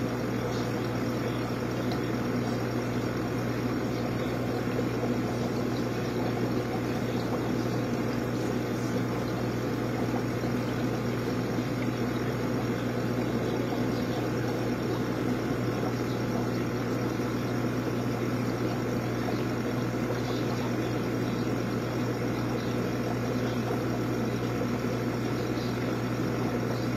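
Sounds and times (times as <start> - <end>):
aquarium pump humming: 0.0 - 26.9.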